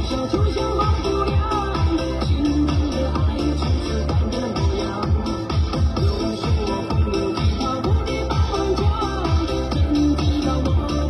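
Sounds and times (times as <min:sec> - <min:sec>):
electronic dance song: 0:00.0 - 0:11.0.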